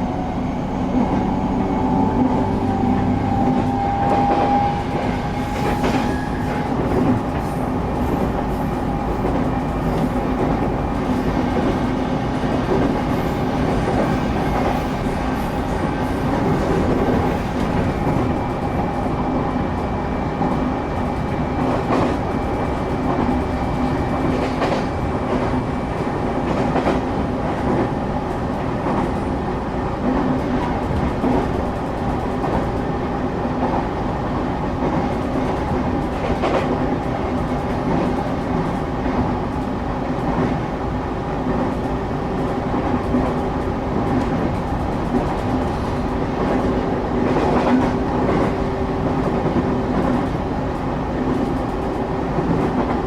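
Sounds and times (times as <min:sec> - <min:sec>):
train wheels rumbling on rails: 0:00.0 - 0:53.0
rail joint clicks: 0:00.9 - 0:53.0.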